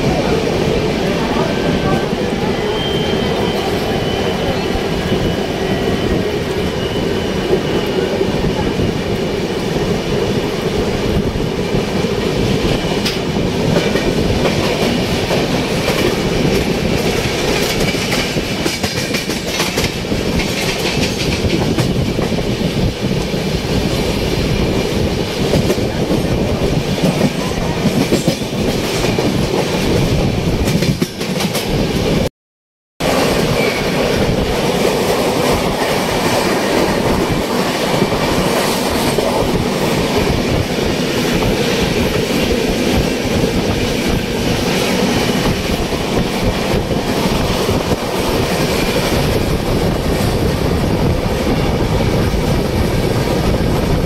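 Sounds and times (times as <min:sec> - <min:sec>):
train rumble: 0:00.0 - 0:32.3, 0:33.0 - 0:54.0.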